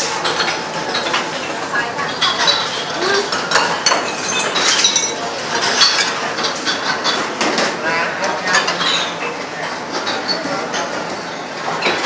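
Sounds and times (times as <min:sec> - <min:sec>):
steady kitchen clatter: 0:00.0 - 0:12.0
utensils clinking against pots: 0:00.0 - 0:12.0.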